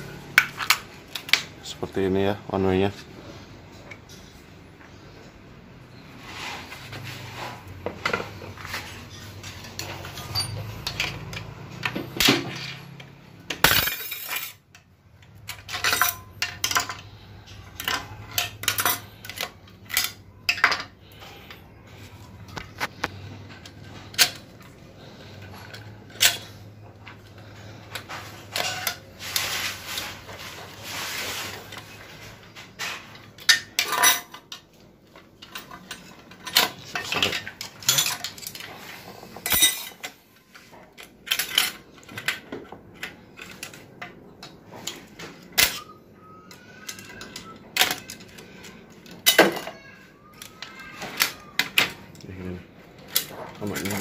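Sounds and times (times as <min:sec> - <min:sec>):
metal tools clinking and scraping: 0:00.0 - 0:54.0.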